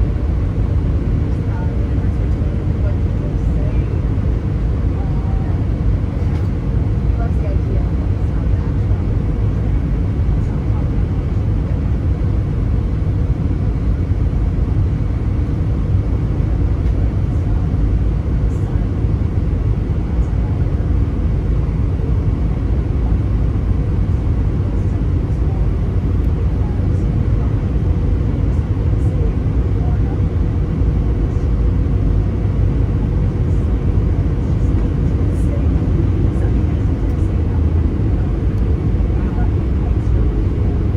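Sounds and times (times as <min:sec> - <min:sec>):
aircraft engines and airflow rumble: 0:00.0 - 0:40.9
faint constant hum: 0:00.0 - 0:40.9.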